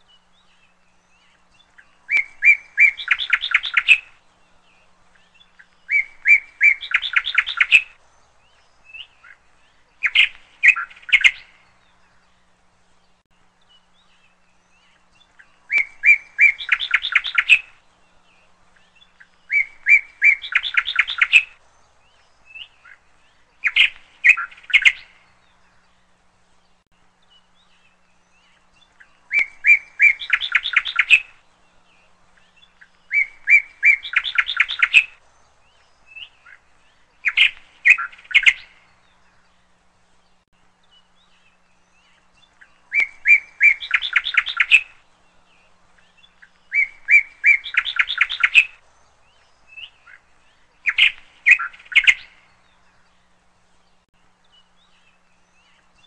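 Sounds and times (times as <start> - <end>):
songbird singing with trills: 0.0 - 56.0.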